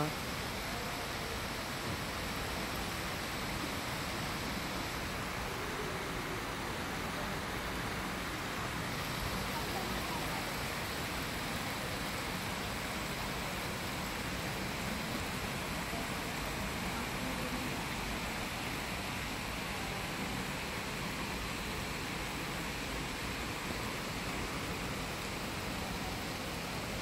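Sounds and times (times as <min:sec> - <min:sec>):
water cascading into pool: 0:00.0 - 0:27.0.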